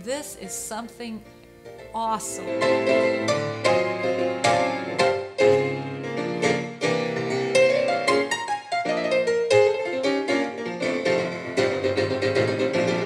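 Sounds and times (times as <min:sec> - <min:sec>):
grand piano playing: 0:00.0 - 0:13.0.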